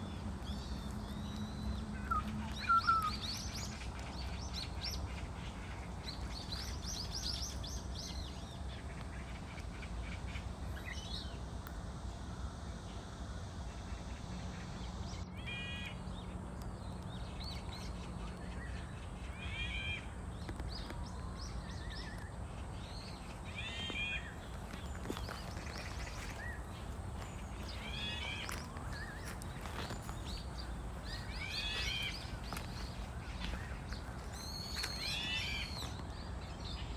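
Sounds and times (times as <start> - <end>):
low background rumble: 0.0 - 36.9
small birds chirping: 0.0 - 36.9.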